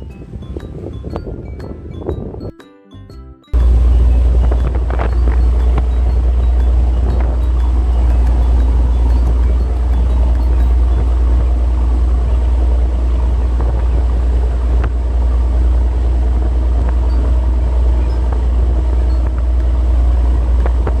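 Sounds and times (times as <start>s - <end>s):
vehicle engine rumble: 3.6s - 21.0s.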